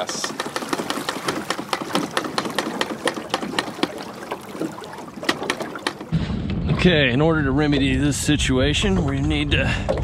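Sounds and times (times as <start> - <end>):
outboard engine sputtering: 0.0 - 10.0.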